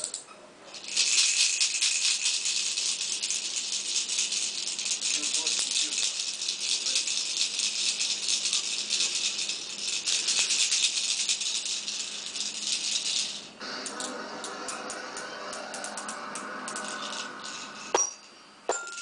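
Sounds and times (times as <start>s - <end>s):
plastic toy shaker rattling: 0.0s - 14.9s, 15.5s - 18.0s.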